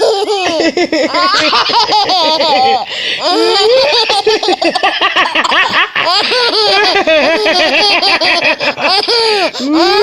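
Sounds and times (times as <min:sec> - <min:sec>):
baby giggling: 0:00.0 - 0:10.0.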